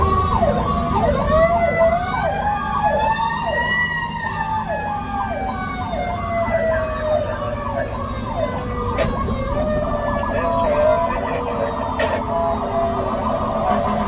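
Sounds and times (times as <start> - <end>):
siren slow wail: 0.0 - 14.0
siren sweeping down in pitch: 0.0 - 14.0
truck engine rumbling: 0.0 - 14.0.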